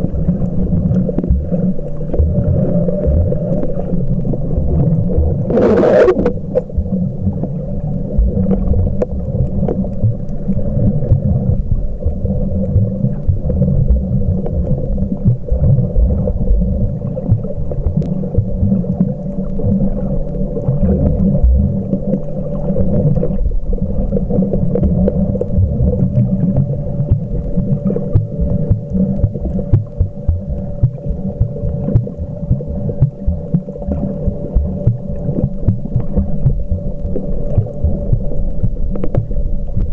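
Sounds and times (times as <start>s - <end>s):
steady low hum: 0.0s - 39.9s
underwater water rumble: 0.0s - 39.9s.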